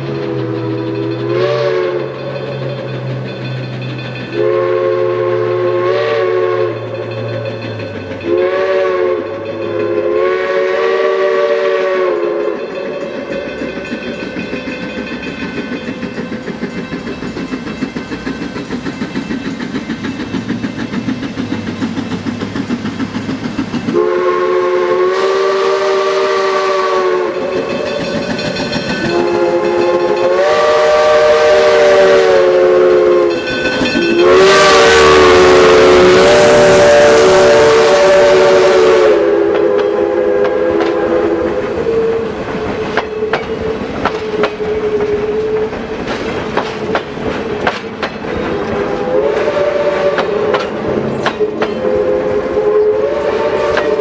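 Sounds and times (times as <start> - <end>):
train chime whistle: 0.0 - 16.1, 23.9 - 45.8, 48.3 - 54.0
train wheels clicking over rail joints: 0.0 - 54.0.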